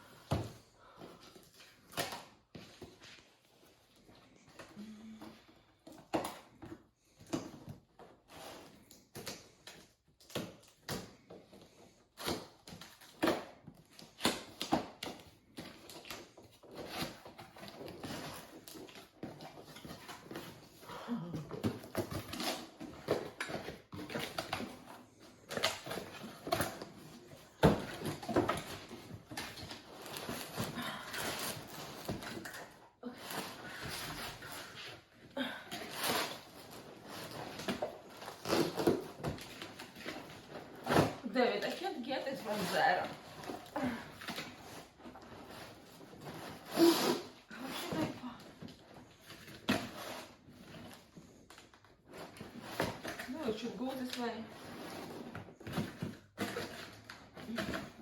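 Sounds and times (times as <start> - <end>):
cardboard boxes rustling and scraping: 10.7 - 58.0.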